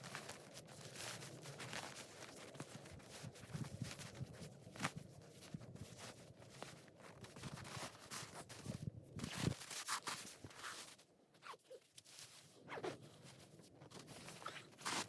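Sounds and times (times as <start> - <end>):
faint rustling and scraping: 0.0 - 15.0.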